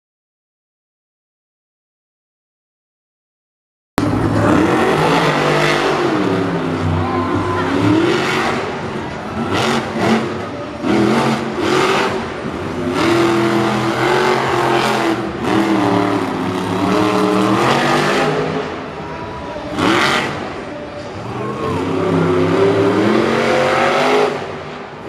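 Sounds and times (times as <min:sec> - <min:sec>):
truck engines revving hard: 0:04.0 - 0:25.0.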